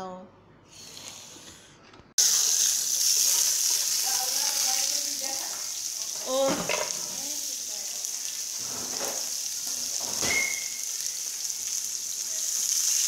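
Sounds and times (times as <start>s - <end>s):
onion sizzling in a pan: 2.2s - 13.0s.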